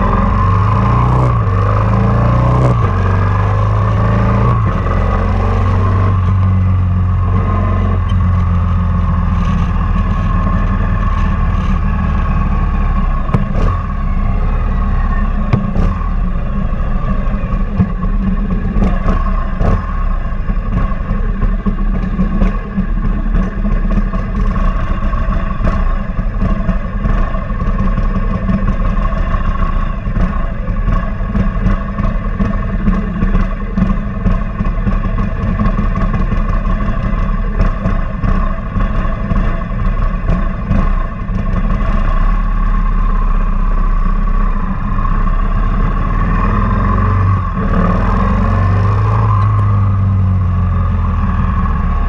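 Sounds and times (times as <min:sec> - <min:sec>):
engine crackles: 0:00.0 - 0:52.0
motorcycle engine running: 0:00.0 - 0:52.0.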